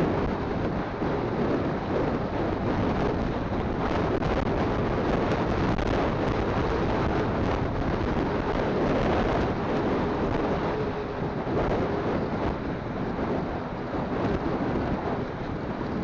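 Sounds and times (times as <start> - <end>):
motorcycle engine drone: 0.0 - 16.0
wind buffeting microphone: 0.0 - 16.0.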